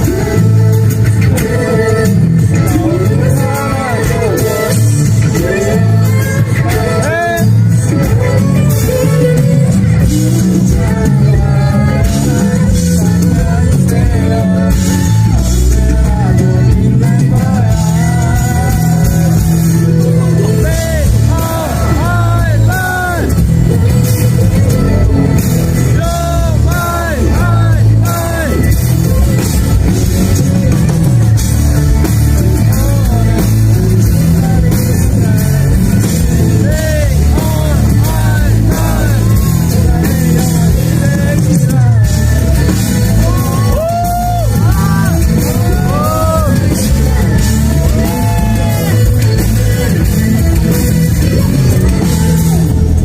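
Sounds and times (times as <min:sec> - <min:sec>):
loud live rock band: 0:00.0 - 0:53.0.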